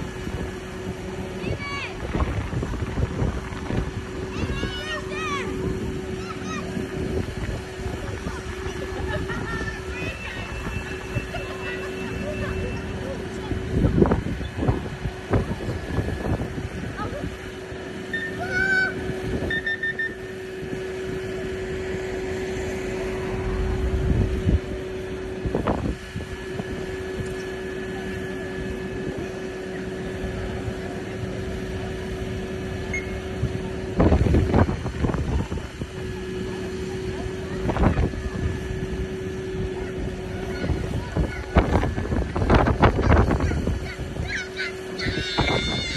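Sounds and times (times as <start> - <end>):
diesel engine humming: 0.0 - 45.9.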